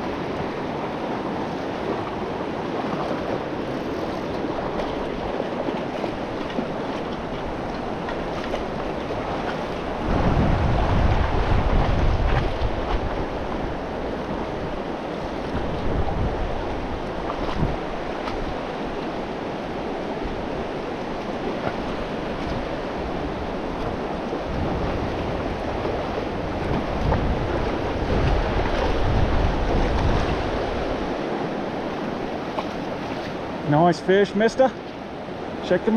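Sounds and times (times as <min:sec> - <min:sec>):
wind buffeting microphone: 0:00.0 - 0:33.6
river water rushing: 0:00.0 - 0:35.9.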